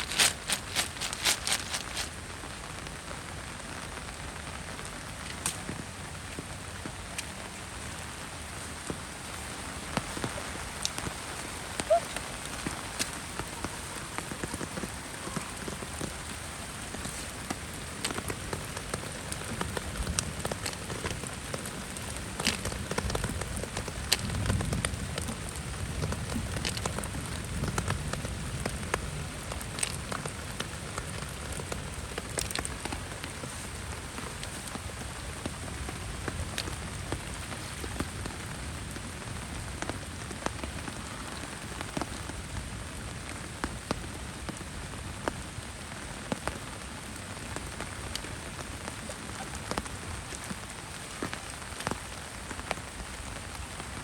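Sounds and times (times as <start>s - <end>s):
heavy rain falling: 0.0s - 54.0s
raindrops ticking: 0.0s - 54.0s.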